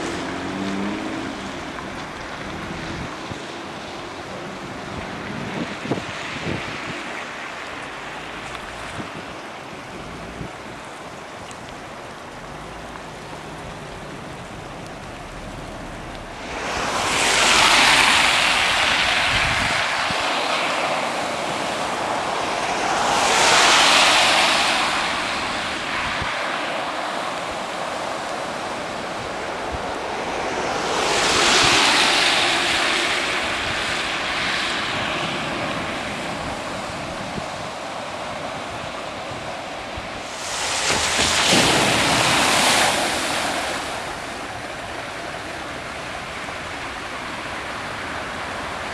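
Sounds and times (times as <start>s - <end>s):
cars splashing through water: 0.0s - 48.9s
steady hiss of water: 0.0s - 48.9s.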